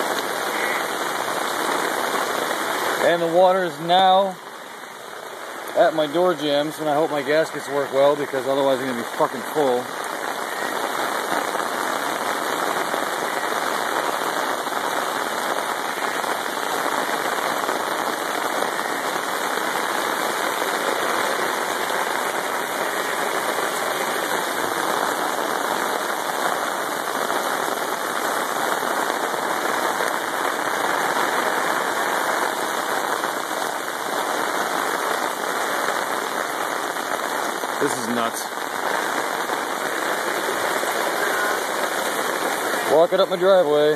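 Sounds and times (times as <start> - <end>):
heavy rain on water and pavement: 0.0 - 43.9.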